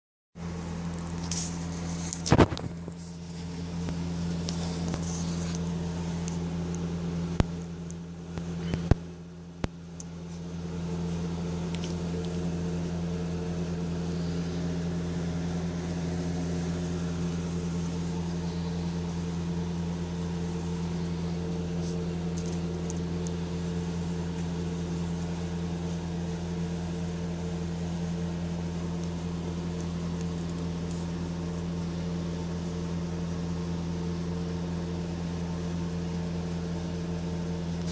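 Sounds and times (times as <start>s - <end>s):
low mechanical hum: 0.4s - 37.9s.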